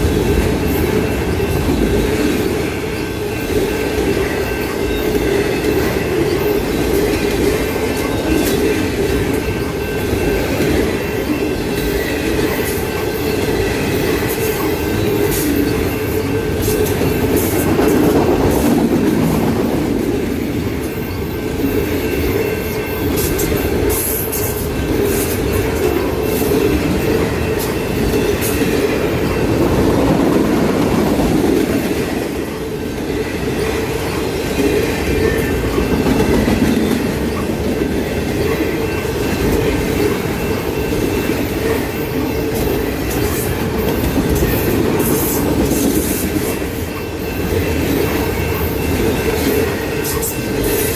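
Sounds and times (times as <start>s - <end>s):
rumble of train wheels on rail: 0.0s - 50.9s.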